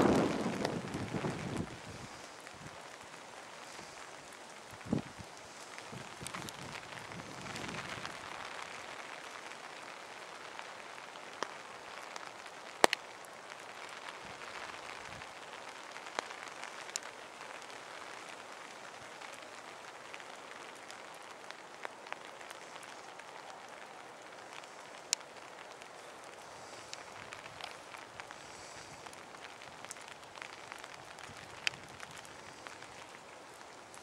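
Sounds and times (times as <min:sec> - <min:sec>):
light rain hissing: 0:00.0 - 0:34.0.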